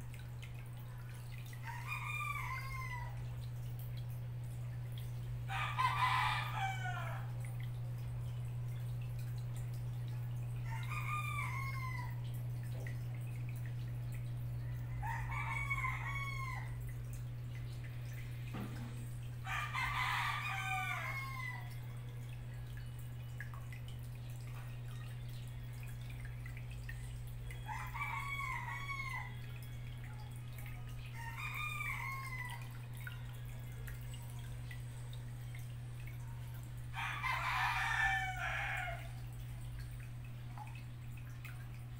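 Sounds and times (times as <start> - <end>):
aquarium water pump hum: 0.0 - 41.9.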